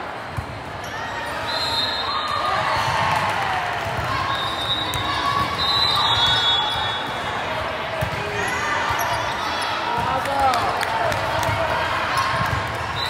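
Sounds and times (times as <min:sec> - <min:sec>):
indistinct voices in a gym: 0:00.0 - 0:13.0.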